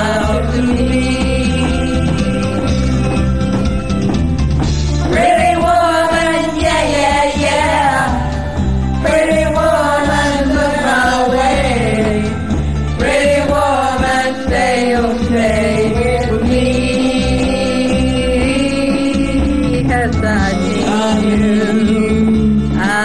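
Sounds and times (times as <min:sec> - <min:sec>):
person singing karaoke: 0:00.0 - 0:04.1, 0:04.9 - 0:23.0
backing track with bass line: 0:00.0 - 0:23.0.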